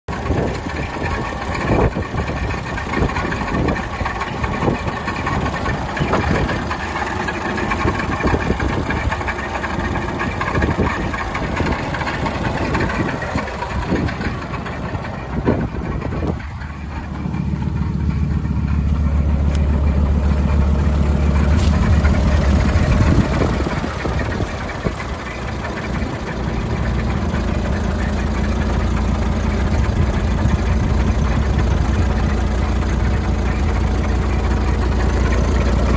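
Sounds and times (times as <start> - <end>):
diesel truck engine idling: 0.1 - 35.9.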